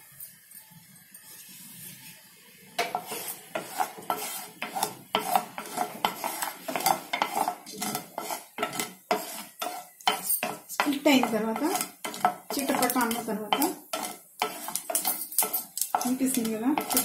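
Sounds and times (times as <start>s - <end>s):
mustard seeds popping in hot oil: 2.8s - 17.0s.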